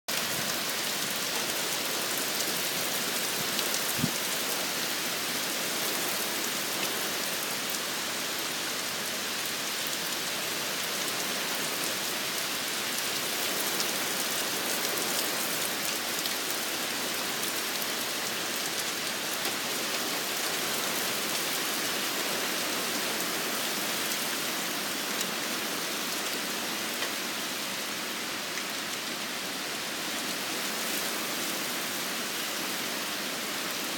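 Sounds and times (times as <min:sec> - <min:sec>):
torrential rain pouring: 0:00.1 - 0:33.9.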